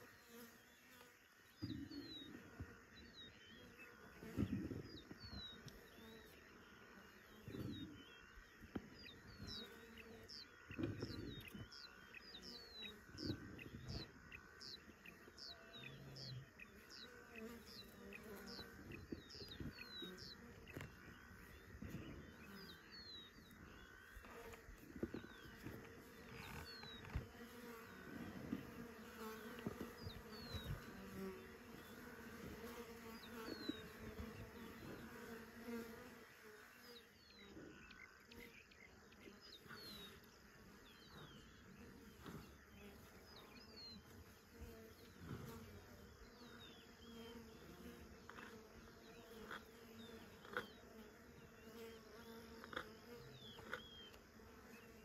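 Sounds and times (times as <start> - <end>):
flies buzzing: 0.0 - 55.0.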